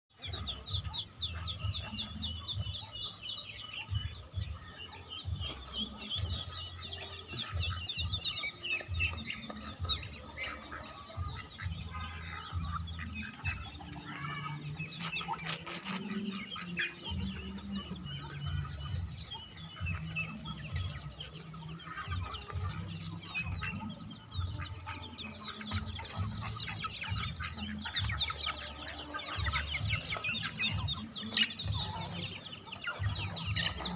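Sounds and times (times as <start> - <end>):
chickens clucking: 0.1 - 33.9
high peeps of ducklings: 0.1 - 33.9.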